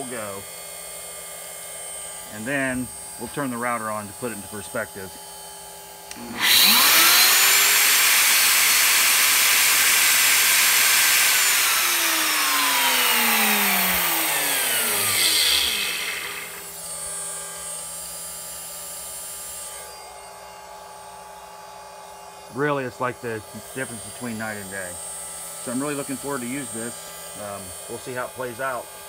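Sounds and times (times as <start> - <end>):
spindle steady whine: 0.0 - 18.2, 22.0 - 29.0
router motor whining: 1.9 - 29.0.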